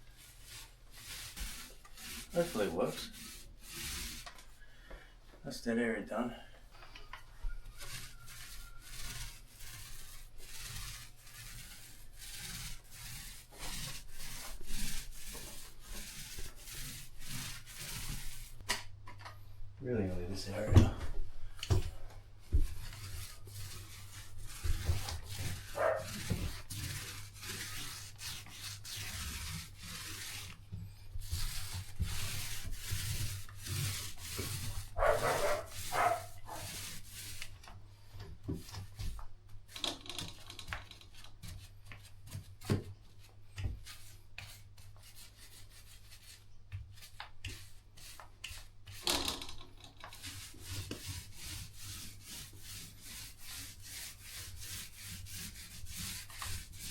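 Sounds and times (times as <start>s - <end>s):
hand tool scraping drywall: 0.1s - 4.5s, 7.5s - 18.6s, 22.4s - 56.9s.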